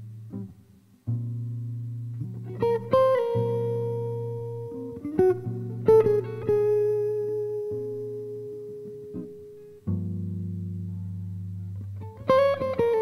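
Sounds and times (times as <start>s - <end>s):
slow guitar plucked notes: 0.0s - 13.0s.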